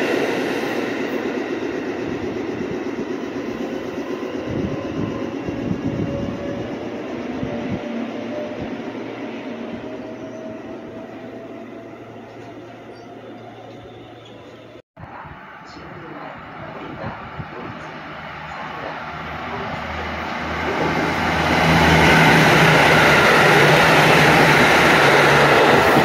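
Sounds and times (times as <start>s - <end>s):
electric train running: 0.0s - 26.0s.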